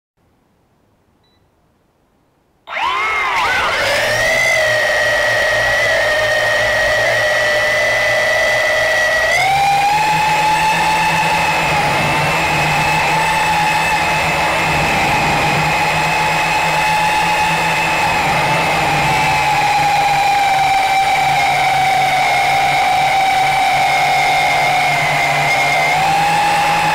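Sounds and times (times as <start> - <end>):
quadcopter motors whining: 2.7 - 26.9.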